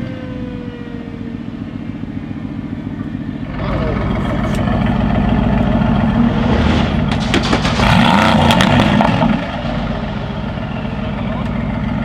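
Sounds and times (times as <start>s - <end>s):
car engine revving: 0.0s - 12.0s
exhaust crackles: 0.0s - 12.0s.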